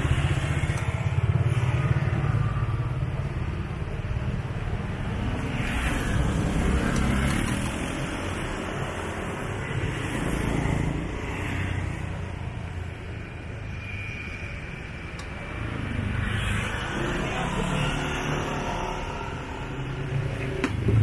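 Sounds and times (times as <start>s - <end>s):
vehicle engines passing: 0.0s - 21.0s.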